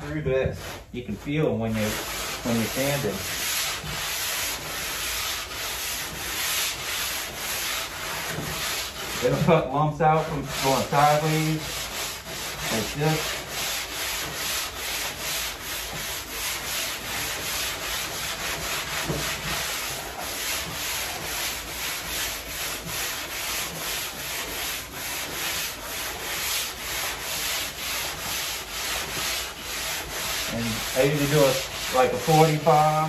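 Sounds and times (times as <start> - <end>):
sanding block rasping on filler: 0.0 - 33.0.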